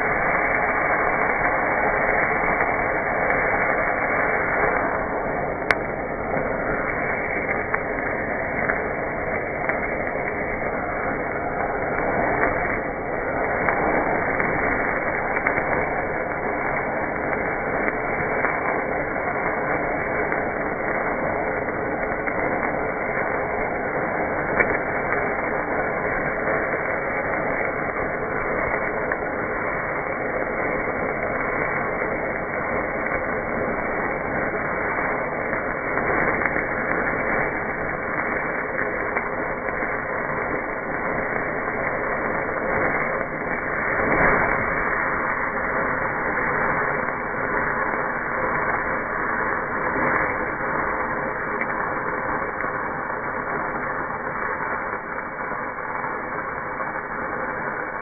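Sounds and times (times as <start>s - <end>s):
muffled static-like hiss: 0.0s - 58.0s.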